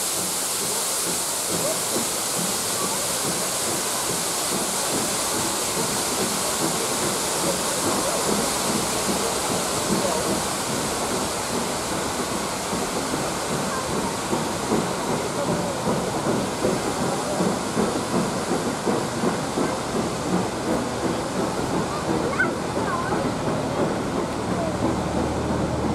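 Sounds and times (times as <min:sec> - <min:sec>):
steam hiss: 0:00.0 - 0:25.9
train wheels clattering over rail joints: 0:00.0 - 0:25.9.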